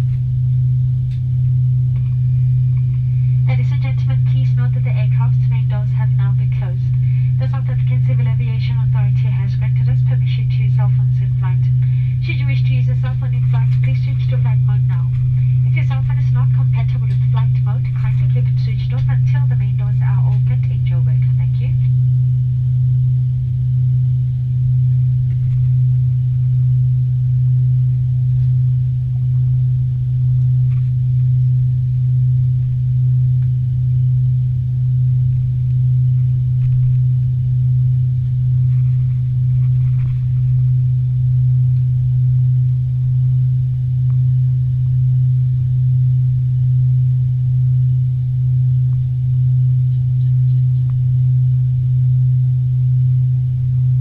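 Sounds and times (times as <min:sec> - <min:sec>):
aircraft cabin engine drone: 0:00.0 - 0:54.0.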